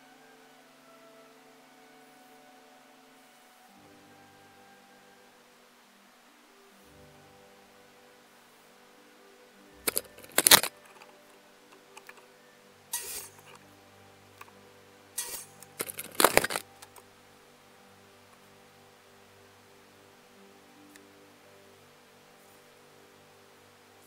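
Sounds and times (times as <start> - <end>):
quiet music of held tones: 0.0 - 24.0.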